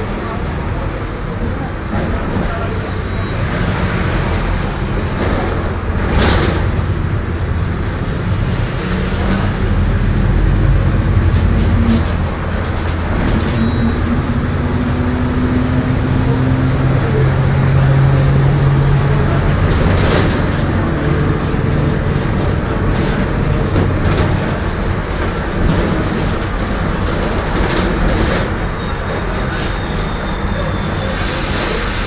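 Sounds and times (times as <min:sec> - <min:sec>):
bus engine droning: 0:00.0 - 0:32.0.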